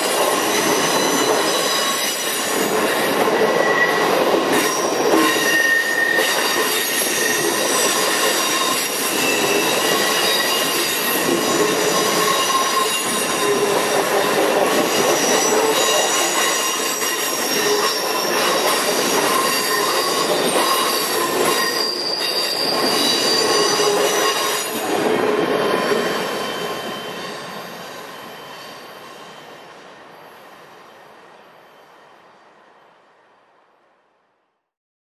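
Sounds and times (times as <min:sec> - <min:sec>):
train wheels squealing on rails: 0:00.0 - 0:33.1.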